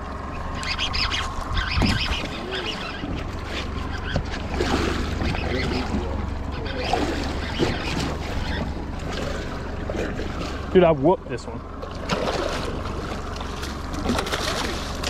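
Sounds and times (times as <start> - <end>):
steady low hum: 0.0 - 15.0
water around boat: 0.0 - 15.0.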